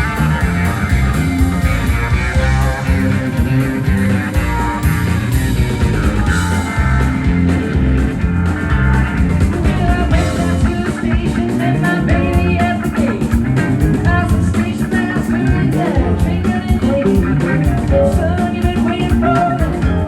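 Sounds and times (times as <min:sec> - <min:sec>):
country-rock band playing: 0:00.0 - 0:20.0
electric guitar lead: 0:00.0 - 0:20.0.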